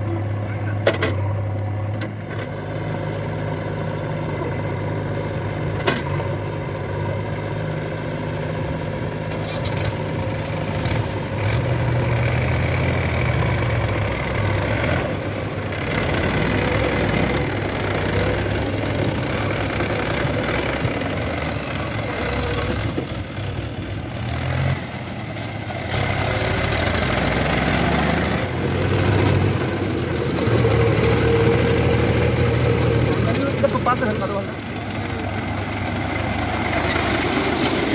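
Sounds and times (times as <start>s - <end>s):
diesel engines working: 0.0s - 37.9s.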